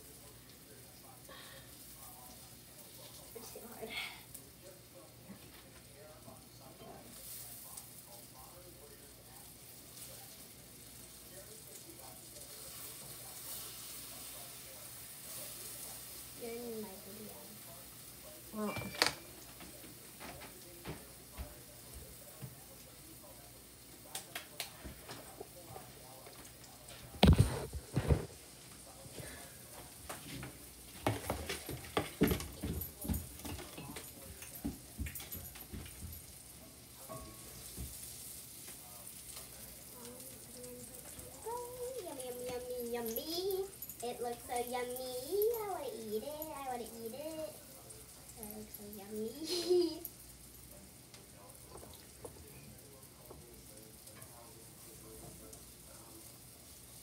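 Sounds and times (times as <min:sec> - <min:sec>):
batter frying in a pan: 0:00.0 - 0:57.0.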